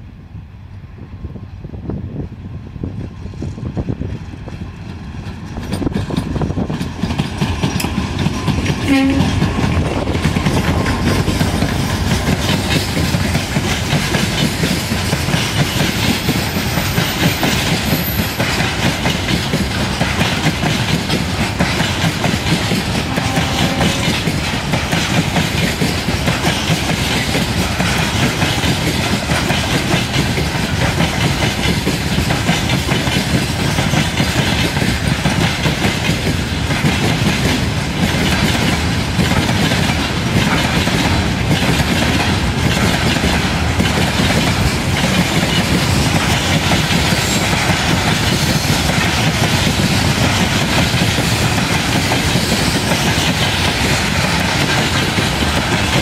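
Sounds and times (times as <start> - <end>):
freight train wheels clattering on rails: 2.1 - 56.0.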